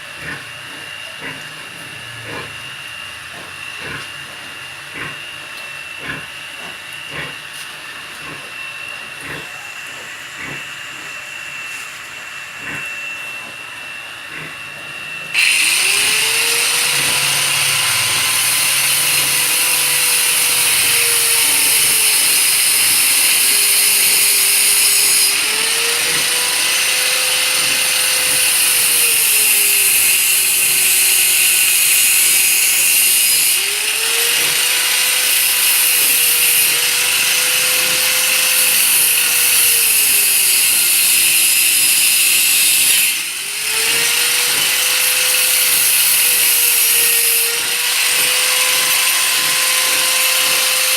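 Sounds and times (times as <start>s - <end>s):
motor-driven machine humming: 0.1s - 50.9s.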